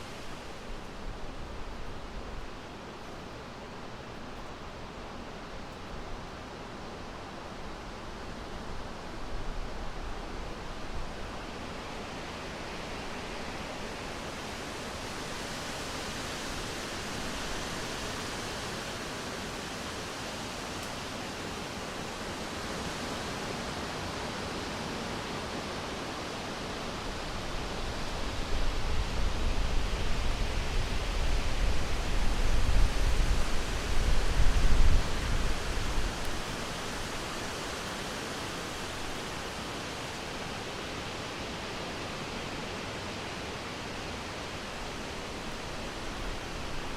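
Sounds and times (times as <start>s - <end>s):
wind through foliage: 0.0s - 46.9s.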